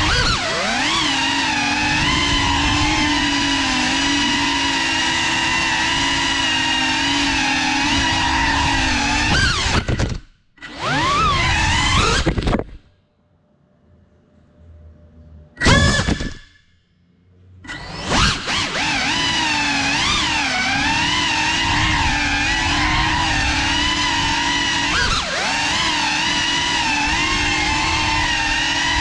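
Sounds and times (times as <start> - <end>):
drone propellers whining: 0.0 - 12.8, 15.5 - 16.8, 17.6 - 29.0.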